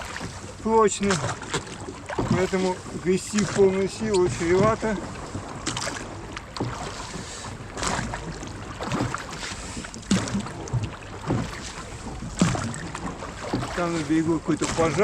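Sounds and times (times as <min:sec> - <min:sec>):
oars clunking in rowlocks: 0:00.0 - 0:15.0
oars splashing: 0:00.0 - 0:15.0.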